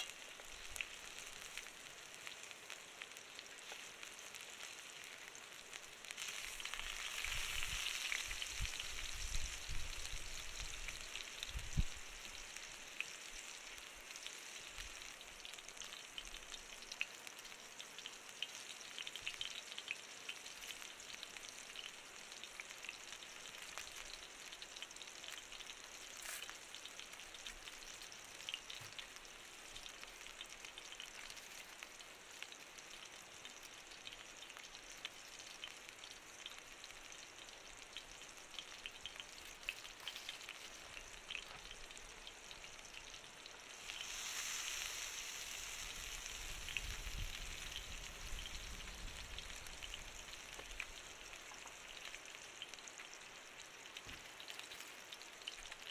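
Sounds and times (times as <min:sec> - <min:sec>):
fire crackles and pops: 0:00.0 - 0:55.9
food sizzling in a pan: 0:00.0 - 0:55.9.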